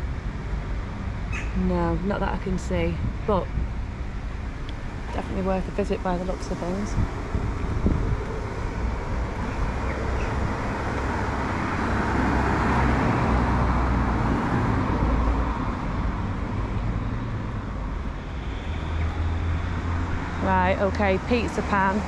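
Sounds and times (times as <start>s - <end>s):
car passing: 2.2s - 22.0s.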